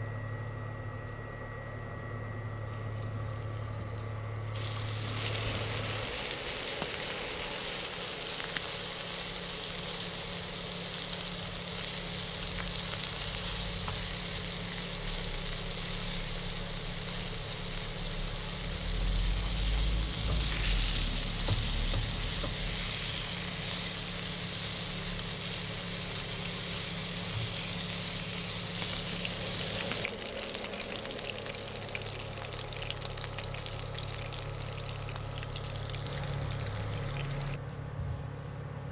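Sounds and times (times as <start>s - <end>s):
low hum: 0.0s - 38.9s
fish sizzling in hot oil: 2.6s - 37.6s.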